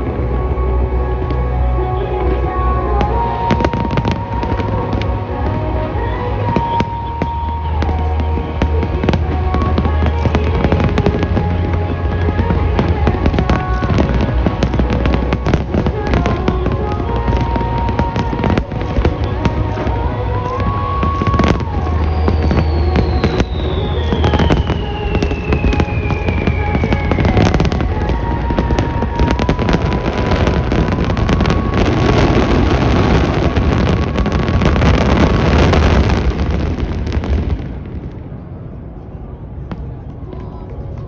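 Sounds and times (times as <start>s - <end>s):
show music: 0.0s - 37.7s
fireworks bangs and crackles: 2.4s - 41.0s.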